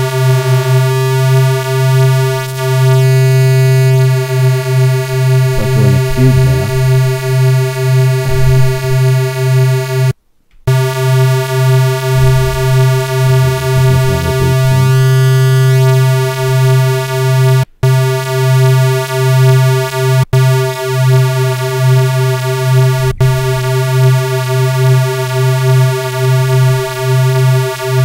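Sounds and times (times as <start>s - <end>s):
low square-wave synth tone: 0.0s - 10.1s, 10.7s - 28.0s.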